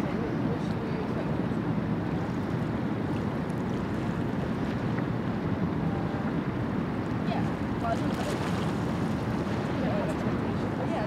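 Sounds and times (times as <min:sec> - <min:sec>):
cruise ship low rumble: 0:00.0 - 0:11.0.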